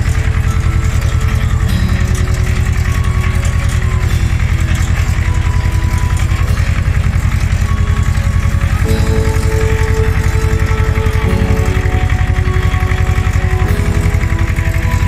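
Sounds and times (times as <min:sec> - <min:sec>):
tractor diesel engine chugging: 0:00.0 - 0:15.0.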